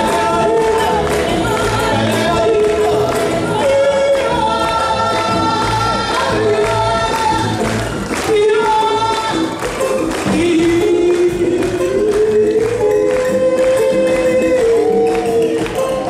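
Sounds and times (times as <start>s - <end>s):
woman singing: 0.0s - 15.8s
acoustic guitar: 0.0s - 16.0s
percussion beat: 0.0s - 16.0s.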